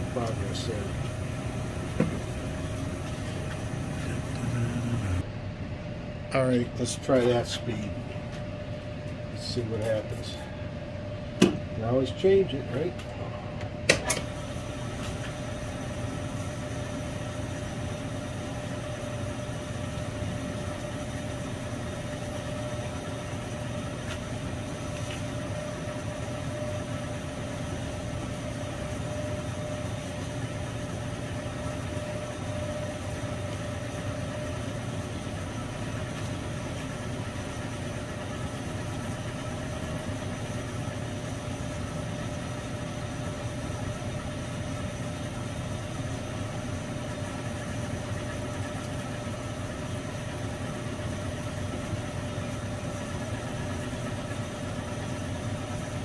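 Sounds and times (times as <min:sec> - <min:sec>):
milling machine whining: 0:00.0 - 0:05.3, 0:09.3 - 0:56.0.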